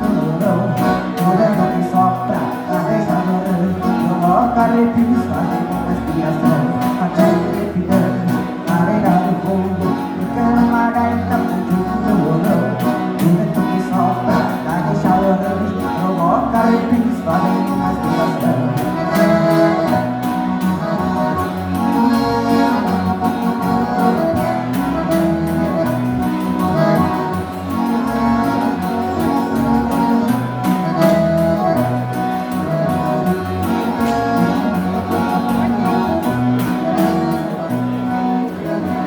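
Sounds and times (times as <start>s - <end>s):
accordion: 0.0s - 39.0s
guitar: 0.0s - 39.0s
steady beat: 0.0s - 39.0s.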